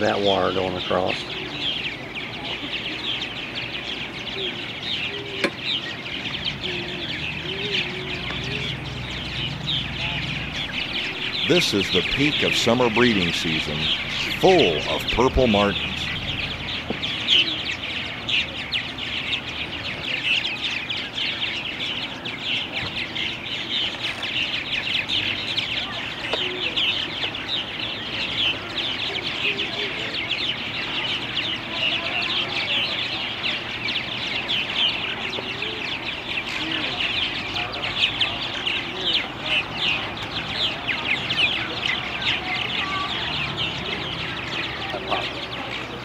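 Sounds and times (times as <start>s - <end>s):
chorus of bird chirps: 0.0s - 46.0s.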